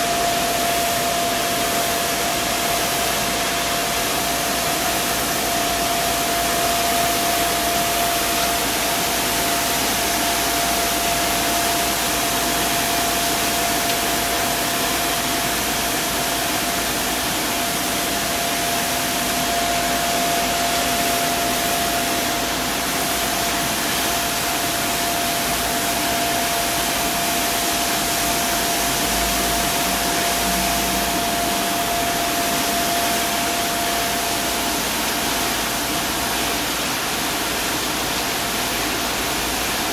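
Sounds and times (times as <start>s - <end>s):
high steady whine: 0.0s - 39.9s
street sweeper running: 0.0s - 39.9s.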